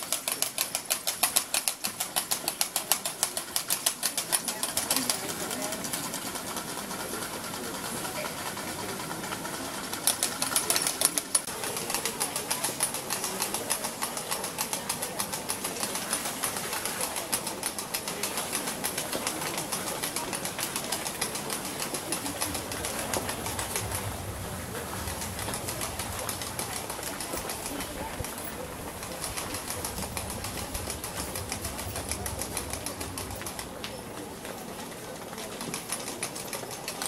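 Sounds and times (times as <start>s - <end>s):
rapid percussive clicks: 0.0s - 37.0s.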